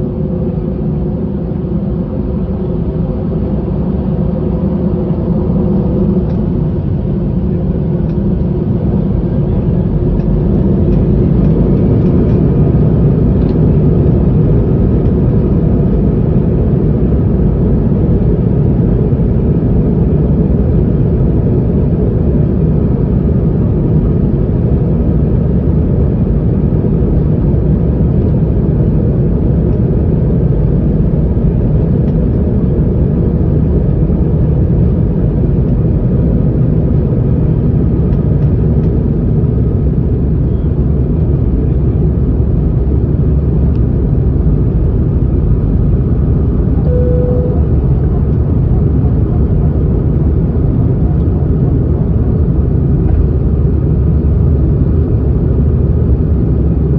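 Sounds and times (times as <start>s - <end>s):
aircraft rolling rumble: 0.0s - 56.9s.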